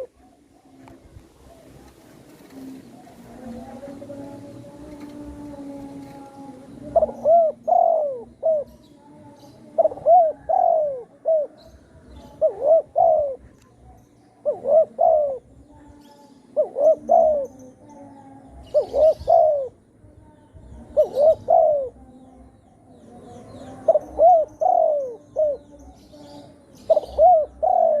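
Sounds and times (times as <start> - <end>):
dove cooing: 0.0 - 19.9, 20.6 - 22.4, 23.2 - 28.0.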